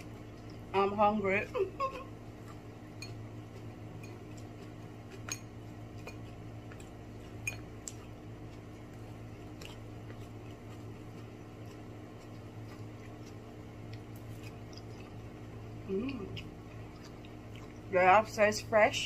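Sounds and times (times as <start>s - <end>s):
person chewing food: 0.0s - 0.7s, 1.9s - 18.0s
steady low hum: 0.0s - 19.0s.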